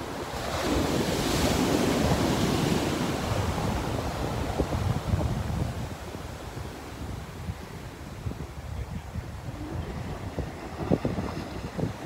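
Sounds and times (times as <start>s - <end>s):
waves washing up a beach: 0.0s - 12.0s
wind buffeting microphone: 0.0s - 12.0s.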